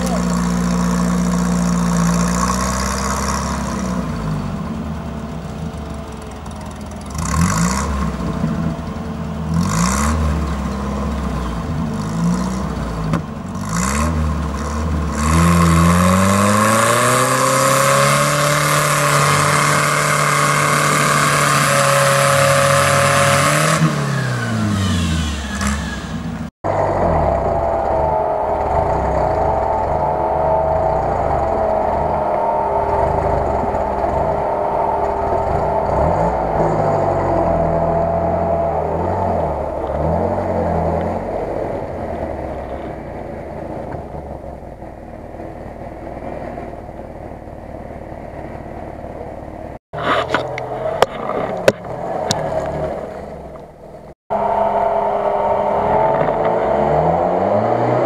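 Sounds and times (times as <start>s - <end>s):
off-road vehicle engine revving: 0.0s - 58.0s
off-road vehicle engine running: 0.0s - 58.0s.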